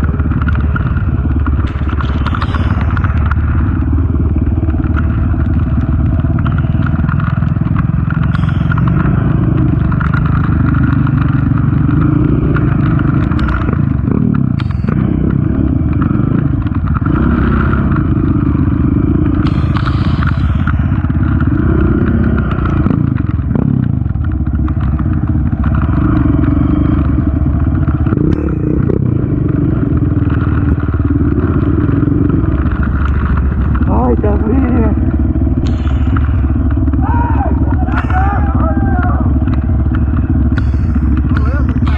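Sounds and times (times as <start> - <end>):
atv engine revving: 0.0 - 41.9
clatter and scraping over trail: 0.0 - 41.9.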